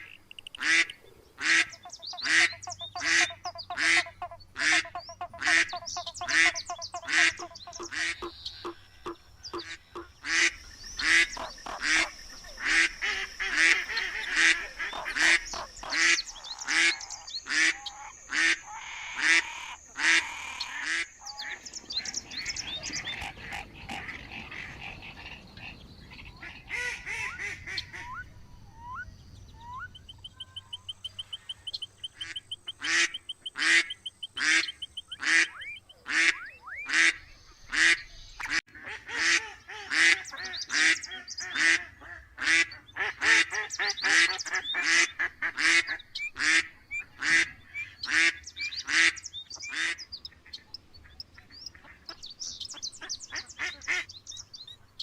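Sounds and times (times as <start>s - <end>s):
ducks quacking and honking: 0.0s - 54.5s.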